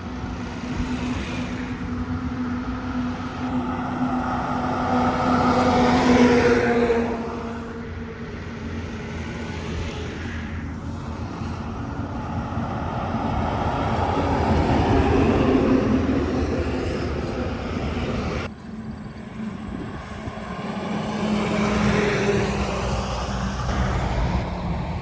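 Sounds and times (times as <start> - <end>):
heavy truck passing: 0.0 - 25.0
vehicle approaching: 0.0 - 25.0.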